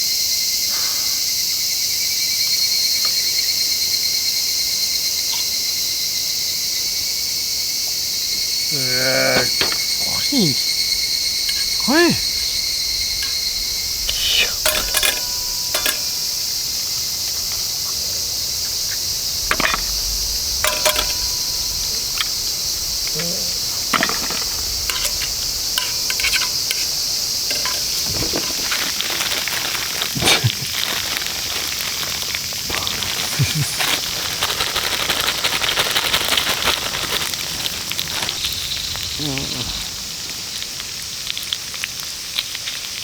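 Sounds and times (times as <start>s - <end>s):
crickets and night insects chirping: 0.0s - 43.0s
campfire crackling: 2.8s - 43.0s.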